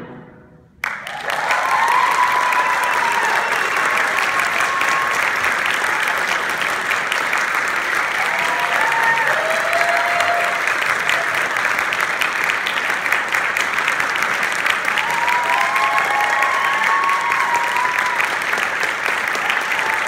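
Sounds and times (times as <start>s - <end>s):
audience applause: 0.8s - 20.0s.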